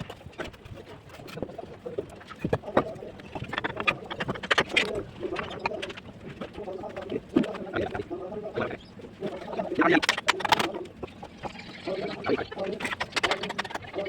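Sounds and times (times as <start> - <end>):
low cooing bird calls: 1.4 - 14.0.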